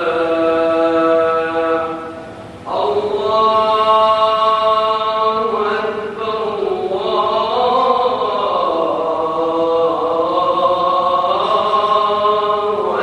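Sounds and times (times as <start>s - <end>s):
man singing call to prayer: 0.0s - 13.0s.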